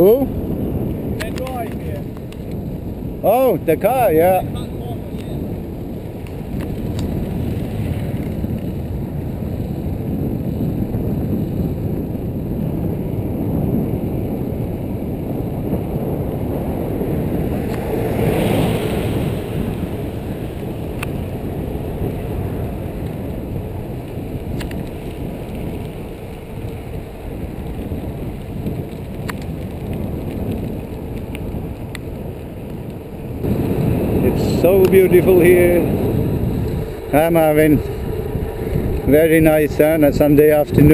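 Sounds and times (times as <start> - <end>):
mountain bike rumble: 0.0 - 40.9
wind on microphone: 0.0 - 40.9.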